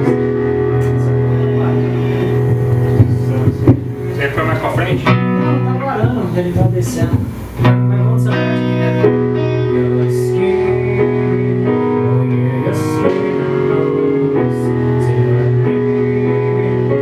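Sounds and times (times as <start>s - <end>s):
guitar music over steady bass: 0.0s - 17.0s.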